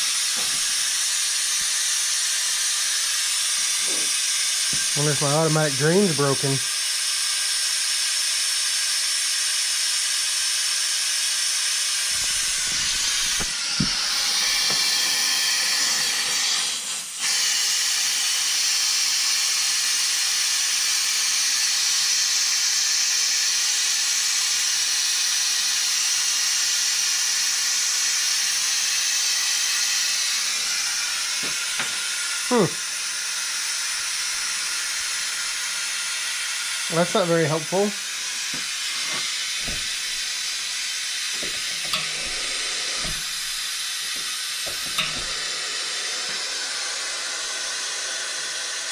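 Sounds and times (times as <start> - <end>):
compressed air hissing: 0.0 - 8.8, 11.6 - 48.9.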